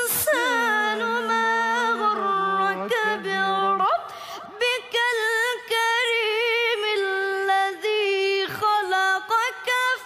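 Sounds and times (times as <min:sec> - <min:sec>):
boy reciting melodically: 0:00.0 - 0:10.0.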